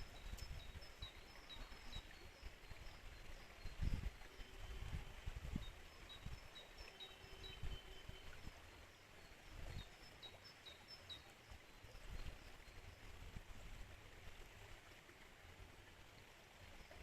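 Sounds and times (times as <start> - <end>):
faint flowing river water: 0.0 - 17.0.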